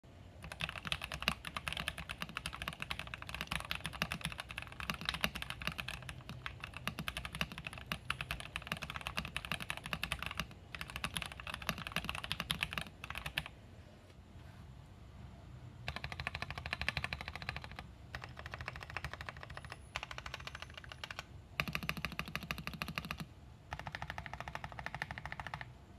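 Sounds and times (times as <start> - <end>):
fast typing on mechanical keyboard: 0.4 - 13.6, 15.8 - 25.8.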